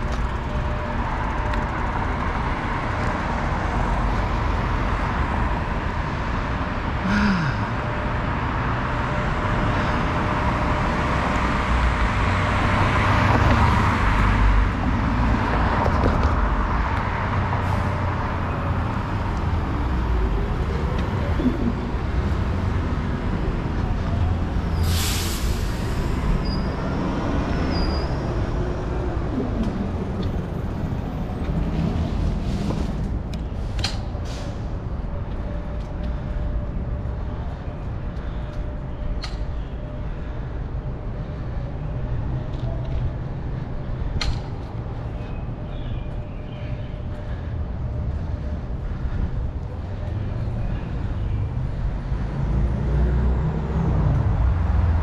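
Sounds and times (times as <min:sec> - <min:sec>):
passing cars rumbling: 0:00.0 - 0:55.0
wind: 0:00.0 - 0:55.0.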